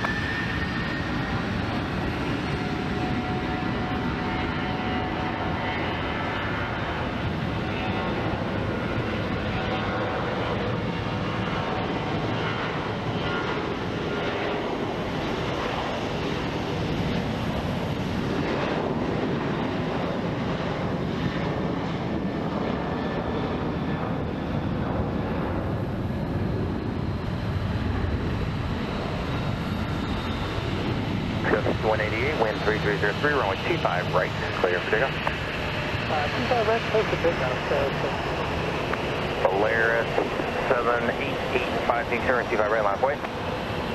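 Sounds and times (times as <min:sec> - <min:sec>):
jet engines at takeoff: 0:00.0 - 0:43.9.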